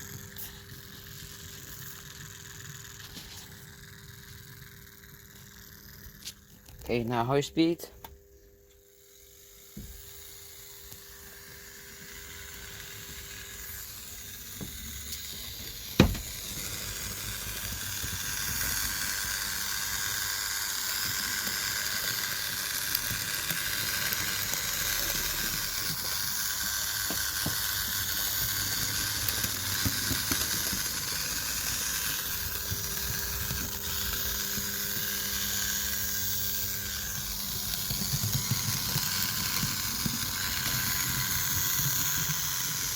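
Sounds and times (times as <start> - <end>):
model train motor whirring: 0.0 - 42.9.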